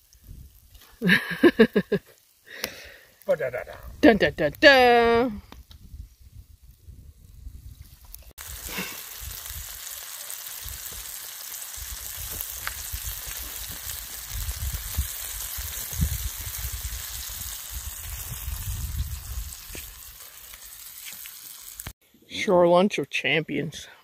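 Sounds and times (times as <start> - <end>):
fish sizzling in hot oil: 0.0 - 3.5, 6.0 - 22.0.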